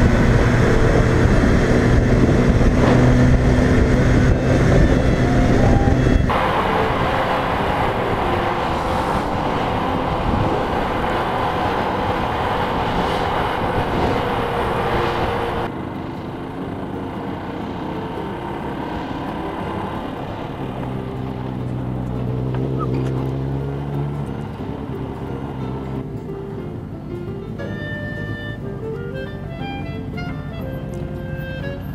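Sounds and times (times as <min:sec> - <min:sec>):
wind rush on camera: 0:00.0 - 0:26.2
motorcycle engine running: 0:00.0 - 0:31.9.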